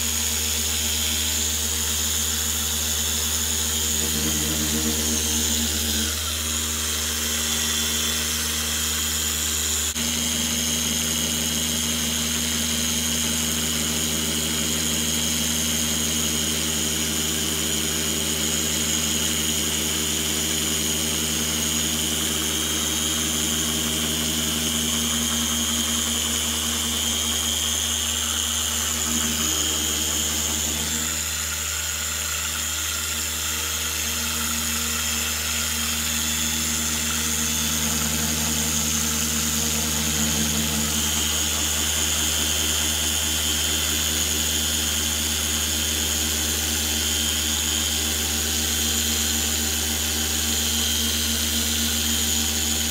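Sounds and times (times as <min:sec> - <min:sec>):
polisher motor humming: 0:00.0 - 0:52.9.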